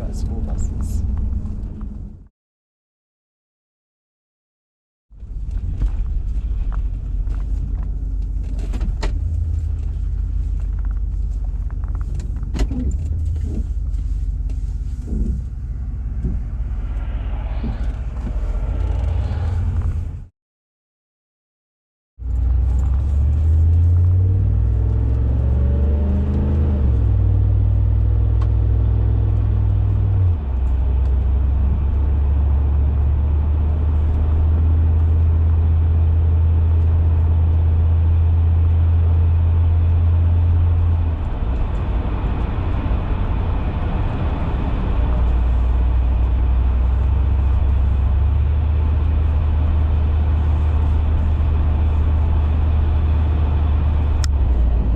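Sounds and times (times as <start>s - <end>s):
car exhaust drone: 5.2s - 20.3s, 22.2s - 54.9s.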